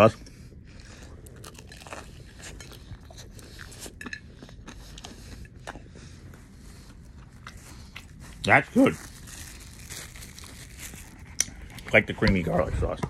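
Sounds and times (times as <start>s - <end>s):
person chewing crunchy food: 0.2s - 12.0s.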